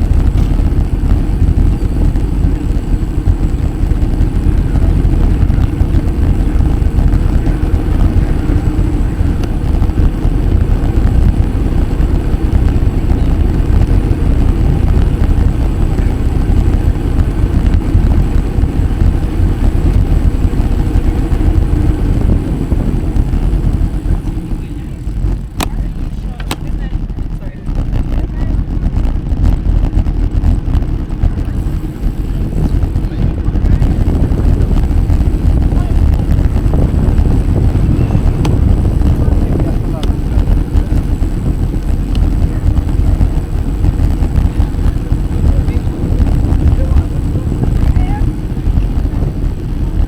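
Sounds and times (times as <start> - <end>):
road noise: 0.0 - 50.0
wind buffeting microphone: 0.0 - 50.0.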